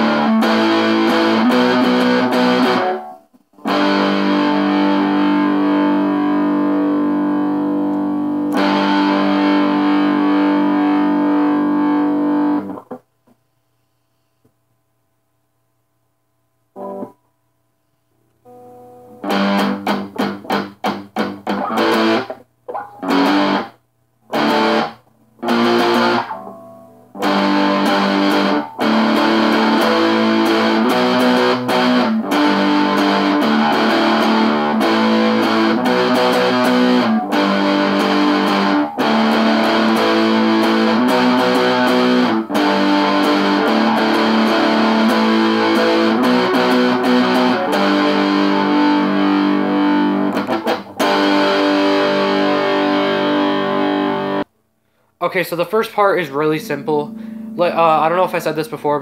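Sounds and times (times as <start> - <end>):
distorted electric guitar chords: 0.0 - 13.1, 16.7 - 17.2, 18.4 - 54.5, 55.6 - 59.0.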